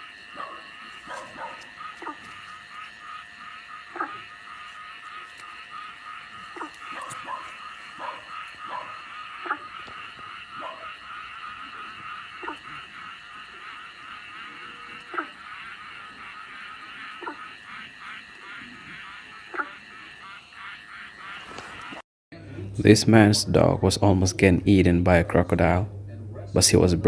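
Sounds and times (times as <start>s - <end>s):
downward-sliding frog calls: 0.0s - 22.0s
pulsing frog chorus: 0.0s - 27.0s.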